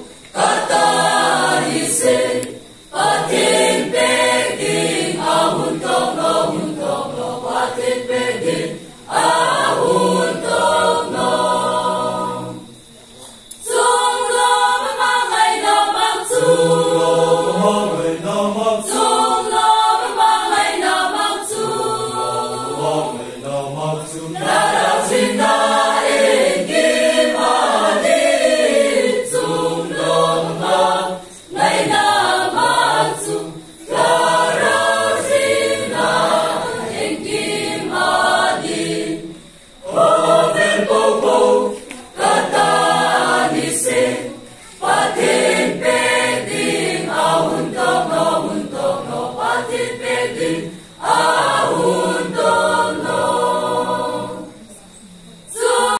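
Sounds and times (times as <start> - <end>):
mixed choir singing: 0.0 - 55.9.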